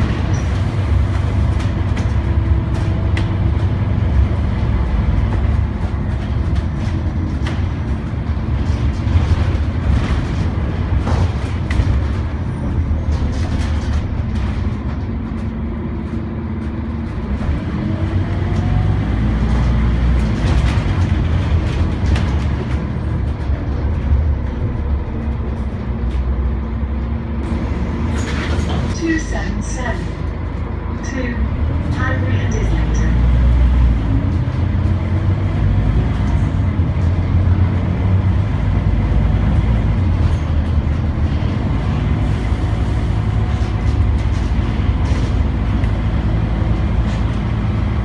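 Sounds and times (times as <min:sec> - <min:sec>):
bus diesel engine rumble: 0:00.0 - 0:48.0
road noise: 0:00.0 - 0:48.0.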